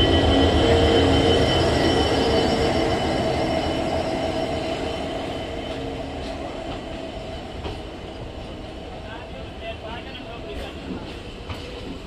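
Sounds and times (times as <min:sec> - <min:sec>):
diesel locomotive engine humming: 0:00.0 - 0:11.8
moving train rumble: 0:00.0 - 0:12.0.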